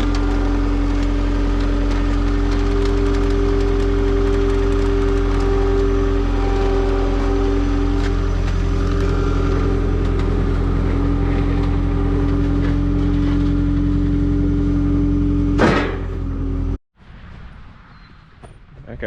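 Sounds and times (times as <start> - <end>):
engine running steadily: 0.0 - 16.8.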